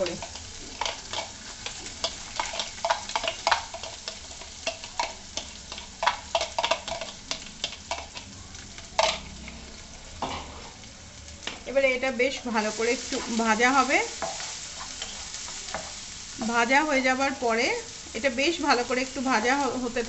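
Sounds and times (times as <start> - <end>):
onions sizzling in oil: 0.0 - 20.0.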